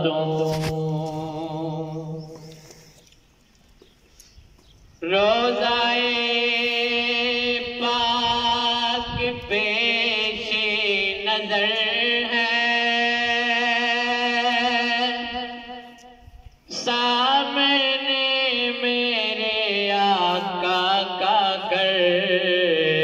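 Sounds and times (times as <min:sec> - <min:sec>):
man singing into a microphone: 0:00.0 - 0:02.5, 0:05.0 - 0:23.0.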